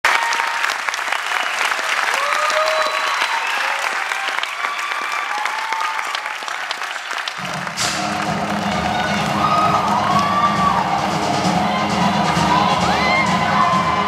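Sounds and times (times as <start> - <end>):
audience clapping: 0.0 - 14.0.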